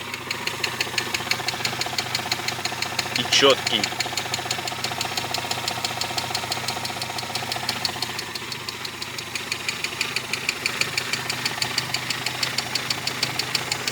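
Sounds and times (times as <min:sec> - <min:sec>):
car engine idling: 0:00.0 - 0:13.9
engine knocking: 0:00.0 - 0:13.9.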